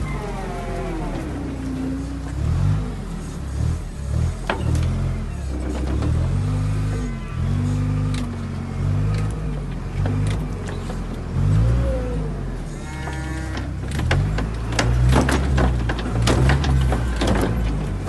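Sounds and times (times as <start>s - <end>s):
engine revving: 0.0s - 18.0s.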